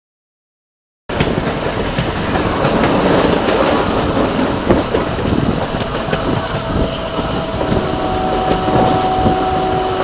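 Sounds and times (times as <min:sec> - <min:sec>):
train wheels rumbling on rail: 0:01.1 - 0:10.0.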